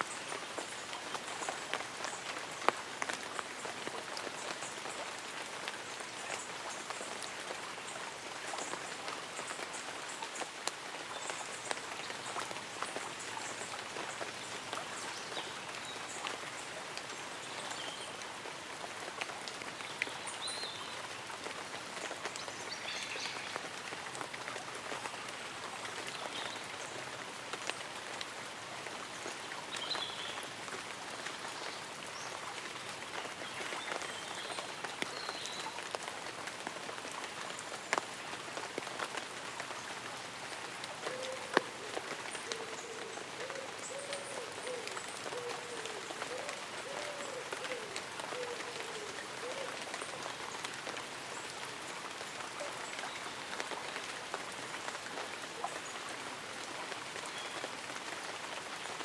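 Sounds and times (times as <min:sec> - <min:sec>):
light rain on leaves and umbrella: 0:00.0 - 0:59.0.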